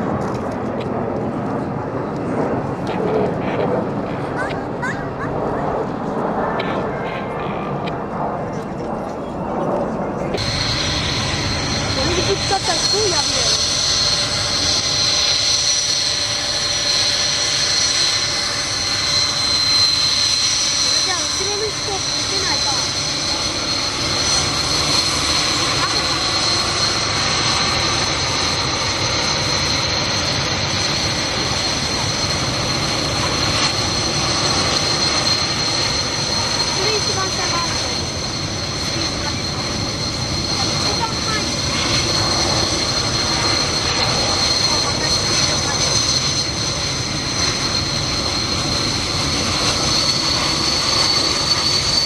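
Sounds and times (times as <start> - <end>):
jet engines whining: 0.0 - 52.0.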